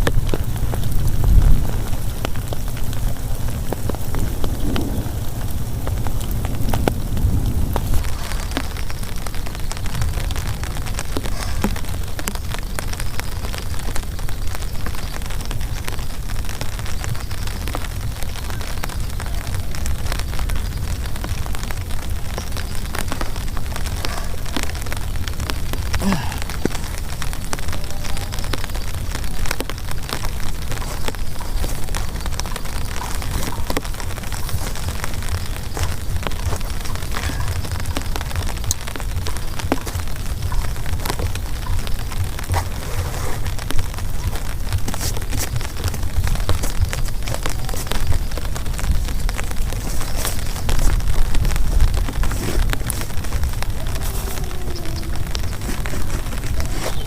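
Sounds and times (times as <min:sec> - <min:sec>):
heavy rain falling: 0:00.0 - 0:57.0
raindrops striking close by: 0:00.0 - 0:57.0.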